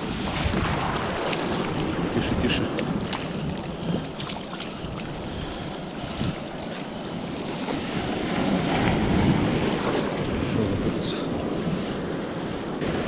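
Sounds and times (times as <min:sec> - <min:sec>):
surf washing around legs: 0:00.0 - 0:13.0
wind buffeting microphone: 0:00.0 - 0:13.0.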